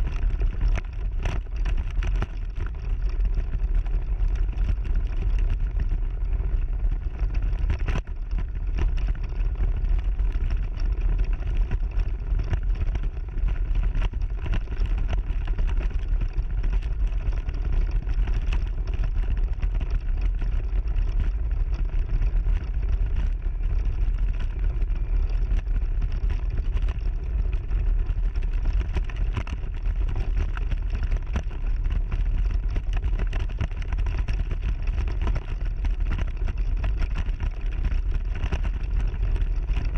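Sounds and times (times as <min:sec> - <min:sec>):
mobility scooter low rumble: 0:00.0 - 0:39.9.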